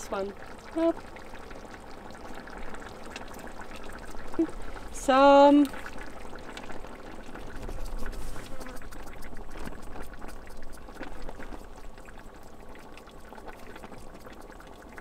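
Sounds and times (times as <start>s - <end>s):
sauce simmering in a pot: 0.0s - 15.0s.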